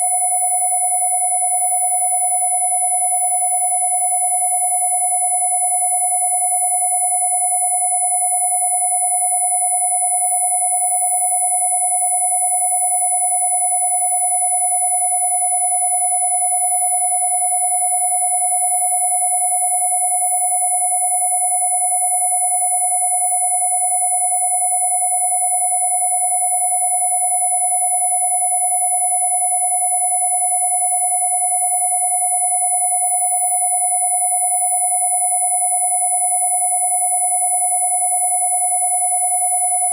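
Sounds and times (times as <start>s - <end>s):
mid-pitched sine tone: 0.0s - 39.9s
very high-pitched sine tone: 0.0s - 39.9s.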